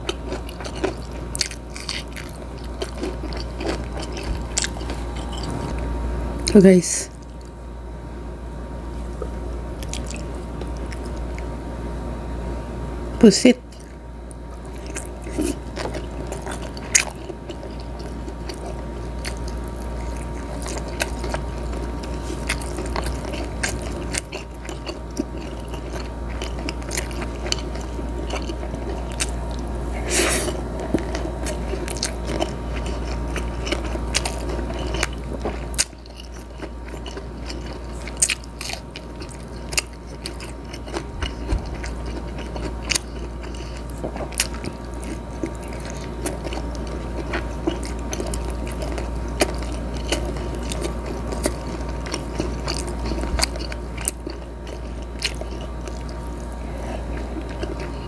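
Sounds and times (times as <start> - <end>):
chewing and biting: 0.0 - 7.6, 9.0 - 11.6, 13.7 - 58.0
steady low hum: 0.0 - 58.0.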